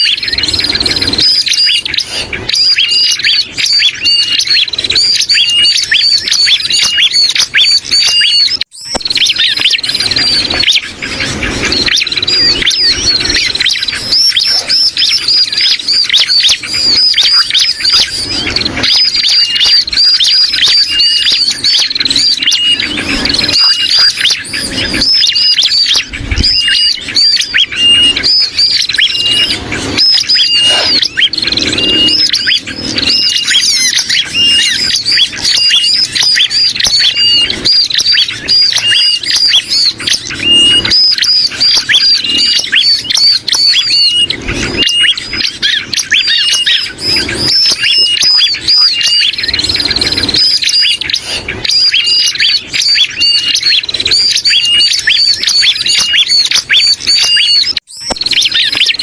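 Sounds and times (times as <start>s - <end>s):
bulbuls squawking alarm chatter: 0.0s - 59.0s
prinia calls: 0.0s - 59.0s.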